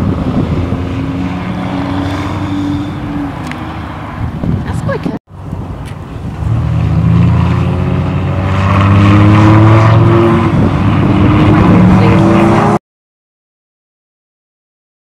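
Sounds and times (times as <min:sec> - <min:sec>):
sports car engine accelerating: 0:00.0 - 0:04.8, 0:05.5 - 0:12.8.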